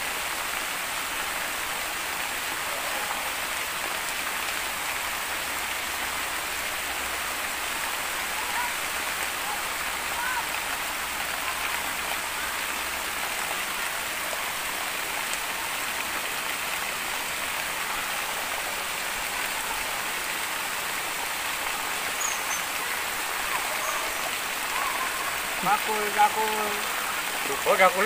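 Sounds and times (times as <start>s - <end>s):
stream water rushing: 0.0s - 28.0s.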